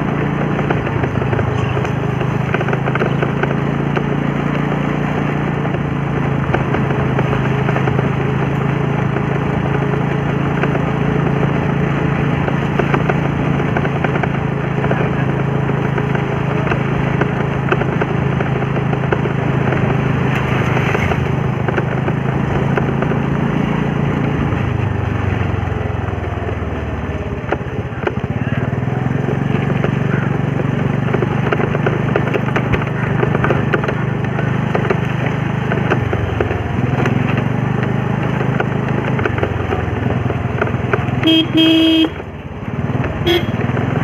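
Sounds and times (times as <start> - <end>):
motor scooter engine running: 0.0 - 44.0.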